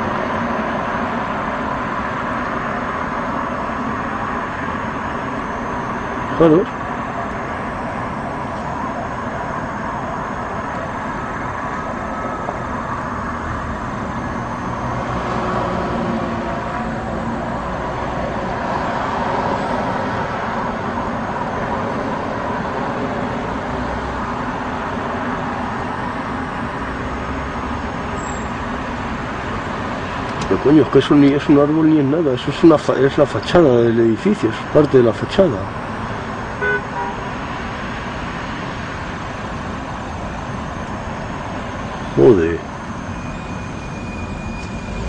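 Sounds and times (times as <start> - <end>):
city traffic noise: 0.0 - 45.0.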